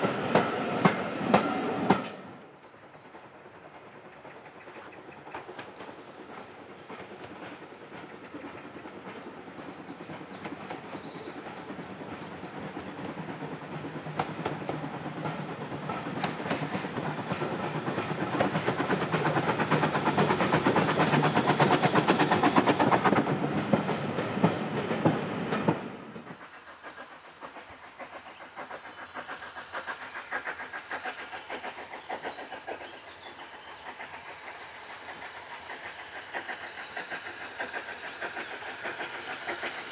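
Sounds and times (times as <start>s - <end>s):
distant steam train approaching: 0.0s - 39.9s
steam locomotive exhaust: 0.0s - 39.9s
train wheels clickety-clack: 0.0s - 39.9s.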